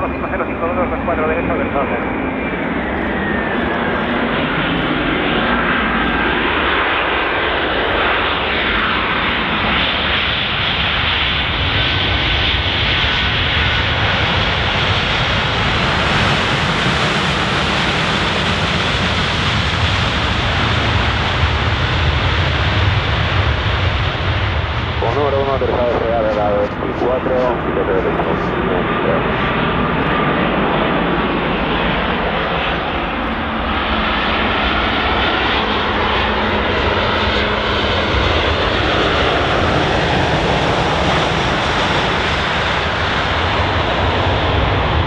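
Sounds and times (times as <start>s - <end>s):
jet engine whine: 0.0s - 45.0s
jet noise and deep rumble: 0.0s - 45.0s.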